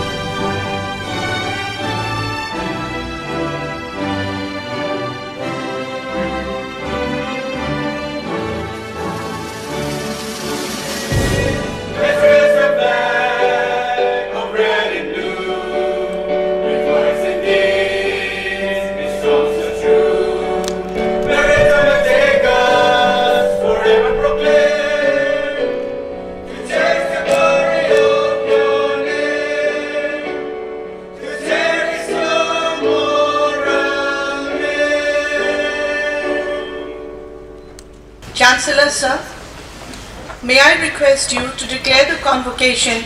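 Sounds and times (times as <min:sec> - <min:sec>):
choir singing: 0:00.0 - 0:37.7.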